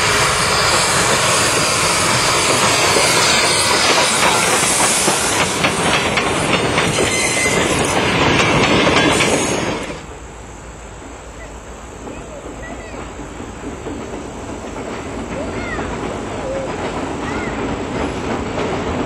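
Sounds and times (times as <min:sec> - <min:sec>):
train wheels clicking over rail joints: 0:00.0 - 0:10.1, 0:10.9 - 0:19.0
steam hissing: 0:00.0 - 0:19.0
steam locomotive exhaust: 0:00.0 - 0:19.0.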